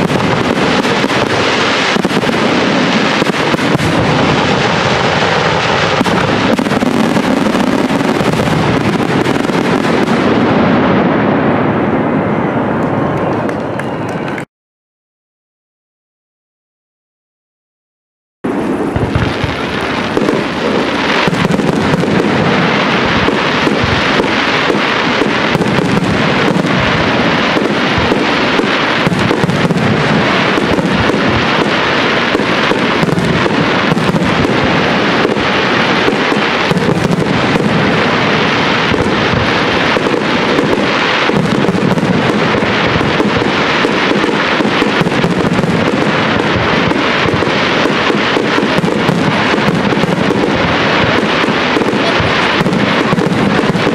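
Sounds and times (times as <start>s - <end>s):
fireworks bursting and crackling: 0.0s - 14.5s, 18.4s - 53.9s.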